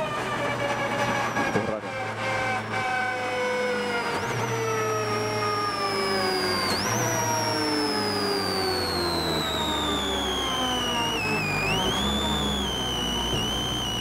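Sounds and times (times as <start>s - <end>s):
transmission whine: 0.0s - 14.0s
turbocharged car engine: 0.0s - 14.0s.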